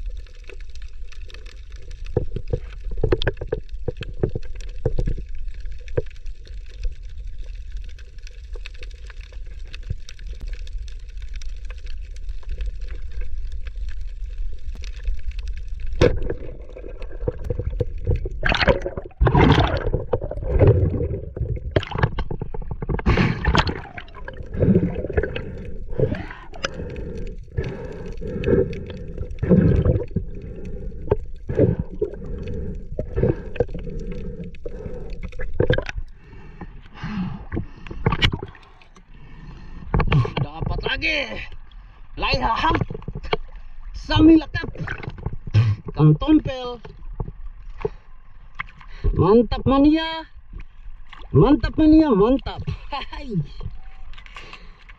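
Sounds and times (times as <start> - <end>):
underwater low rumble: 0.0 - 54.9
uneven water noise: 0.0 - 54.9.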